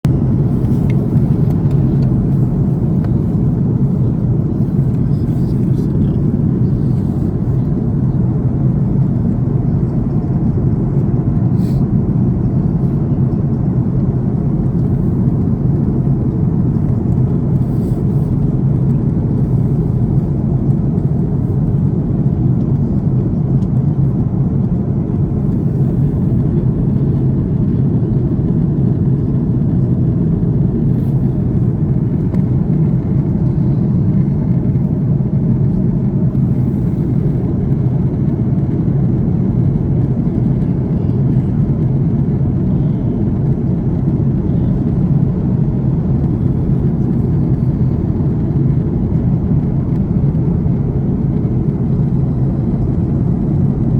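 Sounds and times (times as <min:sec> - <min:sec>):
jet engines roaring in cabin: 0:00.0 - 0:53.9.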